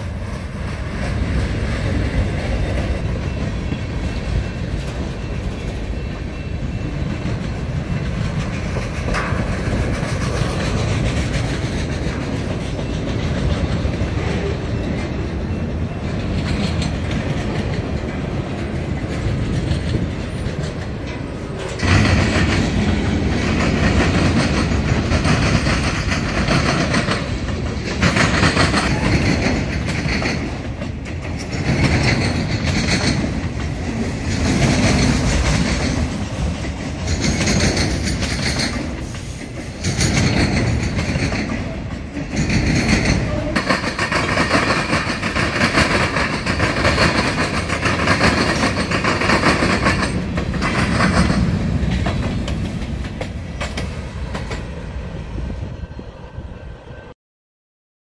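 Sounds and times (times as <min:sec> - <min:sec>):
wheels clacking over rail joints: 0:00.0 - 0:54.8
train wheels rumbling on rail: 0:00.0 - 0:57.1.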